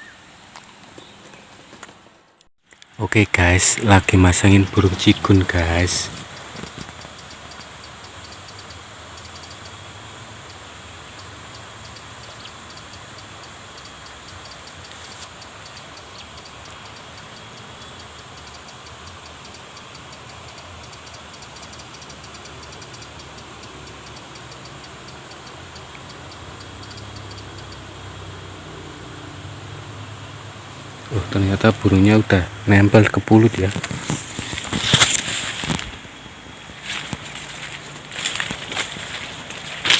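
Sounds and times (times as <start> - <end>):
high insect whine: 0.0 - 2.0, 2.7 - 39.9
insects ticking pulse: 2.7 - 39.9.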